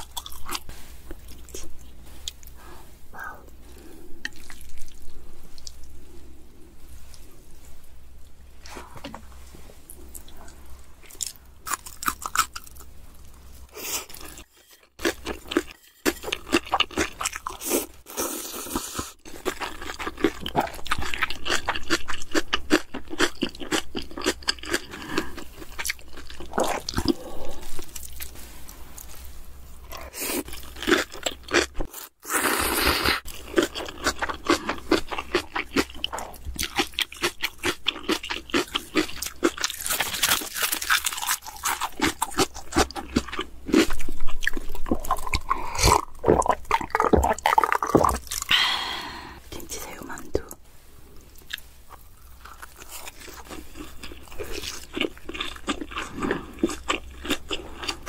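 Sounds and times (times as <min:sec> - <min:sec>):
chewing and crunching food: 0:00.0 - 0:02.7, 0:03.5 - 0:06.2, 0:09.9 - 0:48.9, 0:51.2 - 0:58.0.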